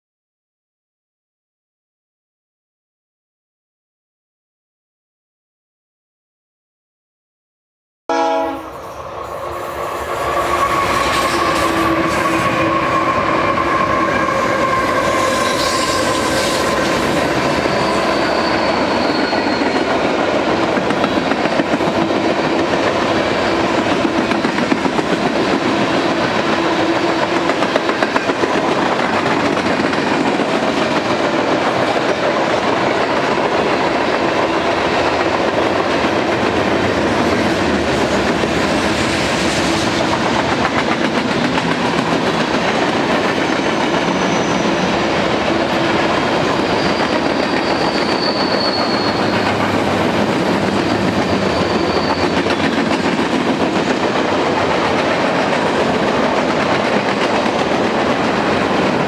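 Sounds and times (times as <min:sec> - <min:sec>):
freight train wheels clickety-clack: 0:09.4 - 0:59.0.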